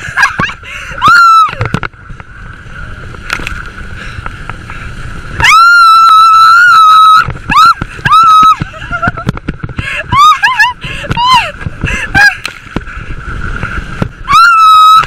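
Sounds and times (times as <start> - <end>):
rushing water: 0.0 - 15.0
wind: 0.0 - 15.0.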